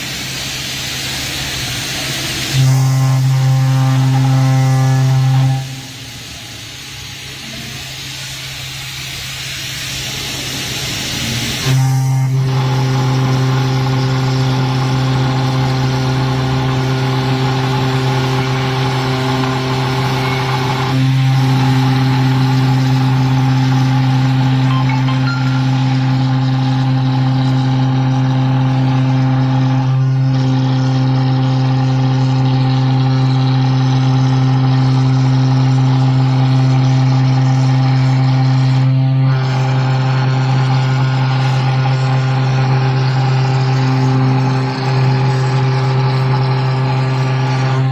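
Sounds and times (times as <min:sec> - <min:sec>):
end mill cutting metal: 0:00.0 - 0:47.9
router spindle hum and whine: 0:01.2 - 0:07.9, 0:11.2 - 0:47.9.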